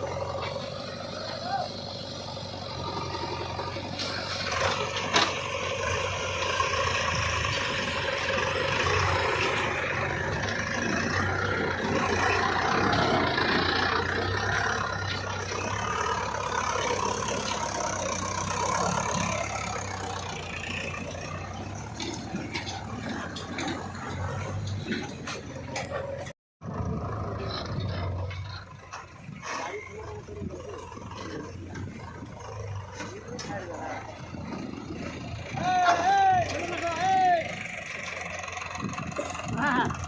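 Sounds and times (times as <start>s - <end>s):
heavy machinery diesel engine: 0.0s - 40.0s.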